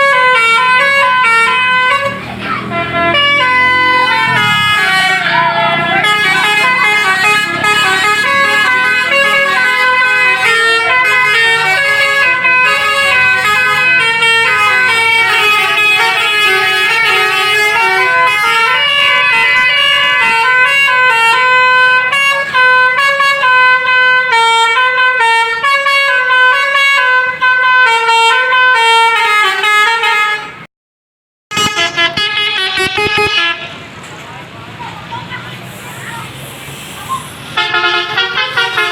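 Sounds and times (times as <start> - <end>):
multi-tone bus horn melody: 0.0 - 30.7, 31.5 - 34.0, 37.4 - 38.9.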